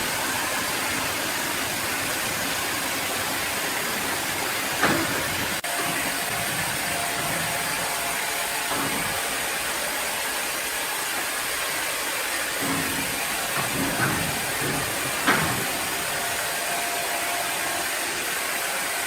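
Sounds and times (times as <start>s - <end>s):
machinery hissing: 0.0s - 19.0s.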